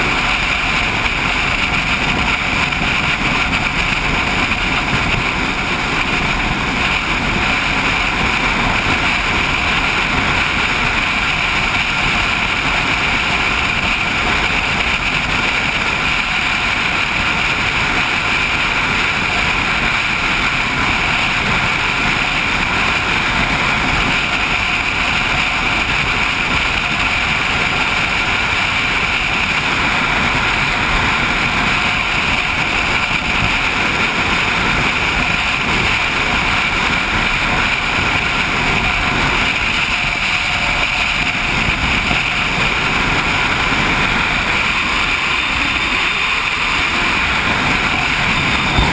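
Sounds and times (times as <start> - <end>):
motorcycle engine and road noise: 0.0 - 48.9
wind rushing over microphone: 0.0 - 48.9.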